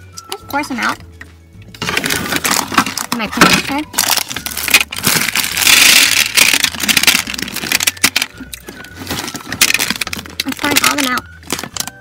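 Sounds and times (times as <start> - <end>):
candies clattering onto a tray: 1.8 - 12.0.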